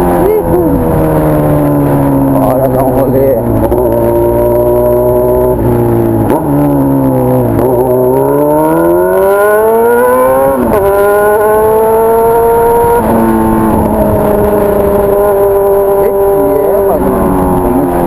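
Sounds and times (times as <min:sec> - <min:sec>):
motorcycle engine changing gear: 0:00.0 - 0:18.0.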